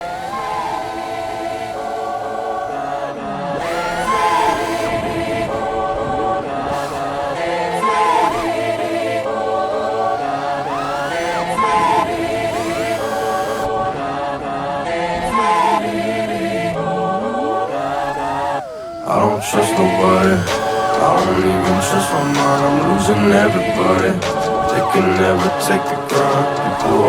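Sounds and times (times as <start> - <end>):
choir-like voices holding chords: 0.0 - 27.0
sliding vocal lines: 0.0 - 27.0.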